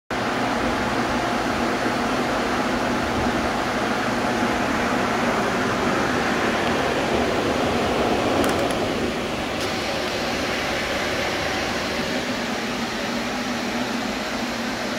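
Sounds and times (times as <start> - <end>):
blower fans rushing air: 0.1 - 14.9.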